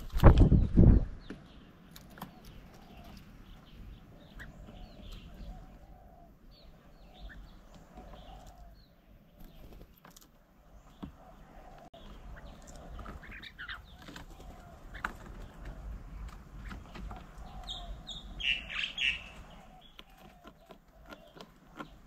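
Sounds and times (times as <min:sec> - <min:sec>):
birds chirping faintly: 0:00.0 - 0:22.0.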